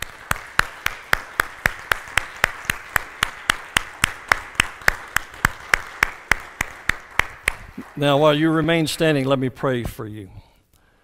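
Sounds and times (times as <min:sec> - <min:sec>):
loud close clapping: 0:00.0 - 0:09.1
crowd applauding: 0:00.0 - 0:09.2.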